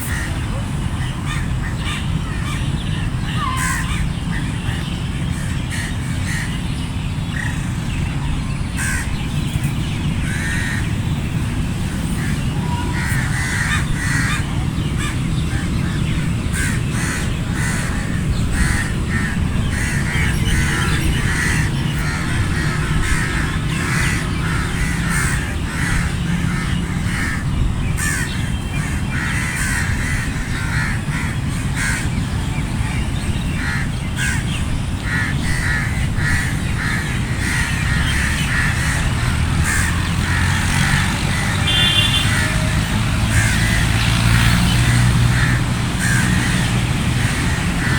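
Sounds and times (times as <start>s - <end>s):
crows cawing: 0.0s - 6.6s, 8.7s - 9.2s, 10.2s - 11.1s, 12.1s - 32.2s, 33.6s - 47.9s.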